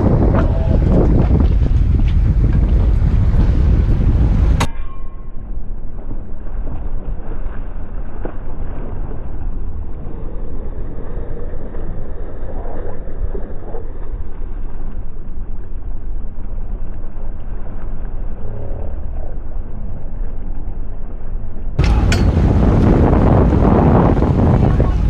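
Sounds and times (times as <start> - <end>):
boat engine rumbling: 0.0 - 25.0
water noise: 0.0 - 25.0
wind: 0.0 - 25.0.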